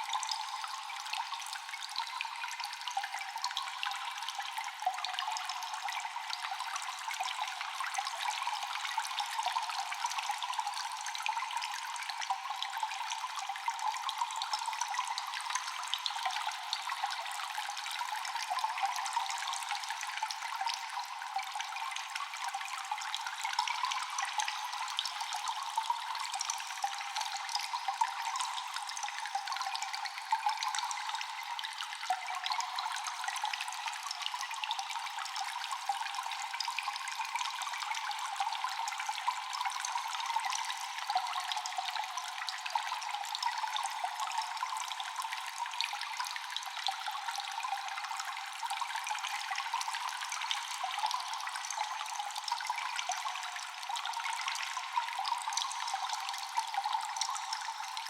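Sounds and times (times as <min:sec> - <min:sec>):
water dripping in cave: 0:00.0 - 0:58.0.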